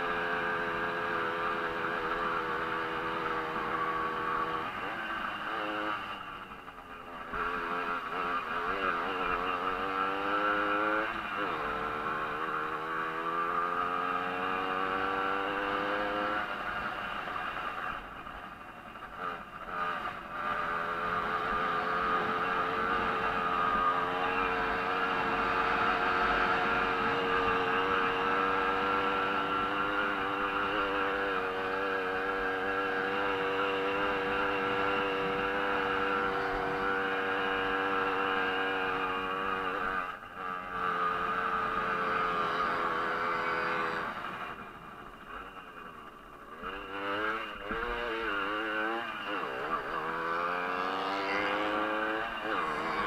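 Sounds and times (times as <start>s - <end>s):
moped engine at high revs: 0.0s - 53.0s.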